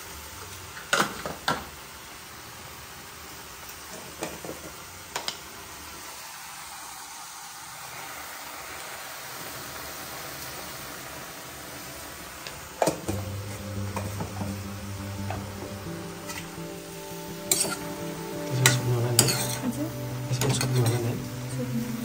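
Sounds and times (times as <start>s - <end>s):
spinach frying sizzle: 0.4s - 22.0s.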